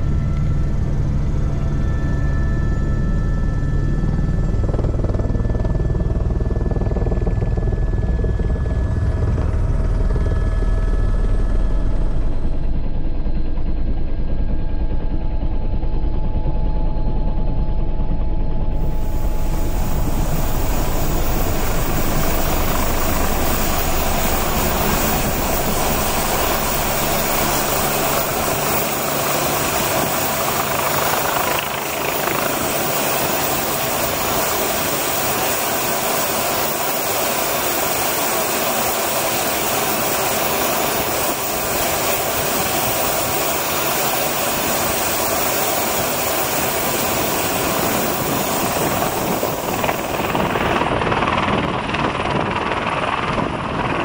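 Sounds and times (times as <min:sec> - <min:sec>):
helicopter turbine and rotor: 0:00.0 - 0:54.0.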